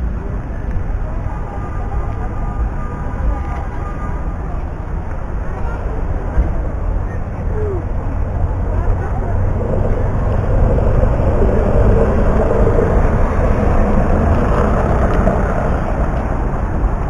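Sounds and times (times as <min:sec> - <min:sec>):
road traffic: 0:00.0 - 0:17.0
vehicle engines passing close: 0:00.0 - 0:17.0.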